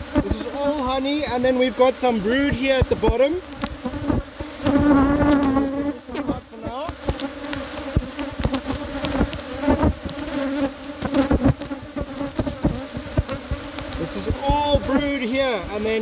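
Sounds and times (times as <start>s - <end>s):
bee flying close past: 0.0s - 16.0s
bees buzzing: 0.0s - 16.0s.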